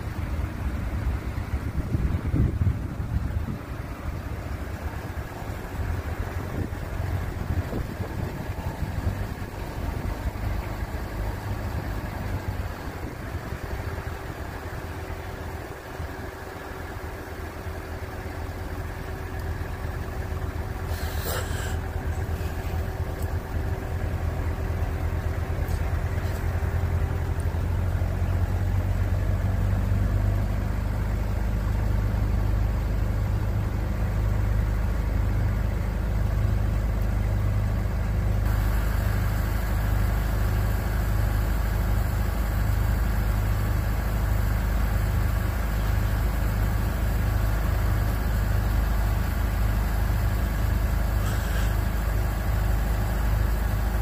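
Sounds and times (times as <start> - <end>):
engine rumbling: 0.0 - 54.0.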